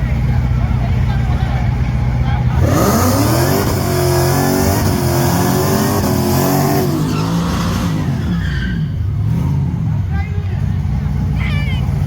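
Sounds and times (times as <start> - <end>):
car engine at high revs: 0.0 - 12.0
exhaust rush: 0.0 - 12.0.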